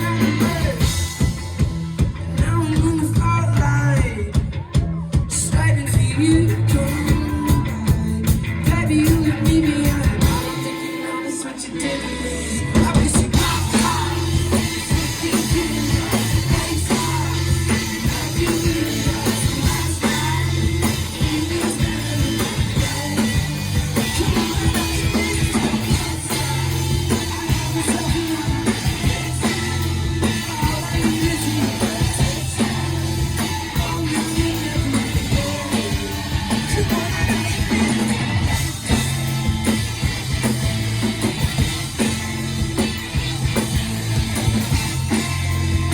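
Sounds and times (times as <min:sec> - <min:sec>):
bass line: 0:00.0 - 0:45.9
drums: 0:00.0 - 0:45.9
guitar: 0:00.0 - 0:45.9
rock band playing live: 0:00.0 - 0:45.9.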